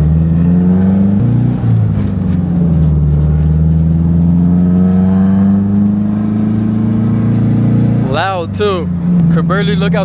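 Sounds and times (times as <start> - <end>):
car engine running from inside cabin: 0.0 - 10.0.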